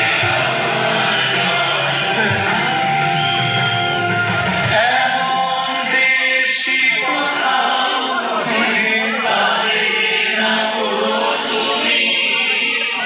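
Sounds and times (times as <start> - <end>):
choir singing with music: 0.0 - 13.0.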